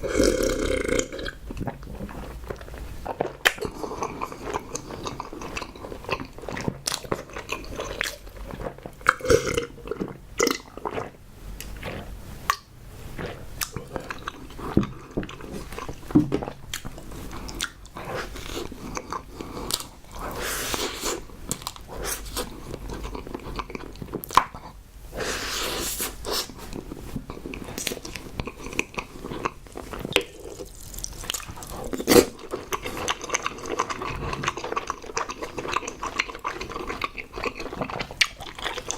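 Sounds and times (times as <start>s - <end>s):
person chewing: 0.0s - 38.9s.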